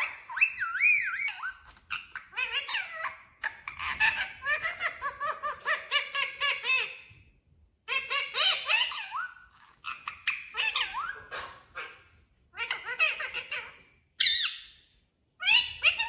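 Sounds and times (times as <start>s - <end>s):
parrot chattering: 0.0s - 7.2s, 7.9s - 16.0s.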